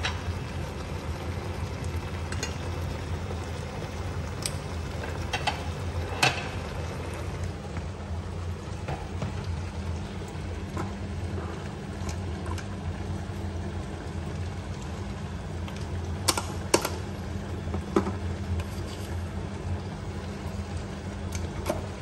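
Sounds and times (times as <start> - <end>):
kitchen hum: 0.0 - 22.0.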